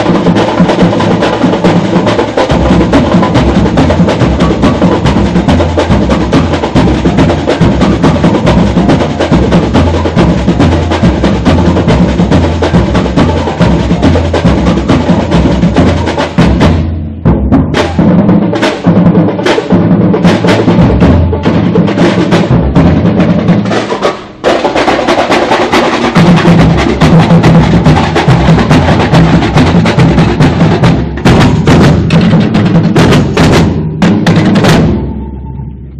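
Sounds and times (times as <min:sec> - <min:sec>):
samba drum ensemble: 0:00.0 - 0:35.6
low surdo drums: 0:00.0 - 0:35.9
rolling snare drums: 0:00.0 - 0:35.9.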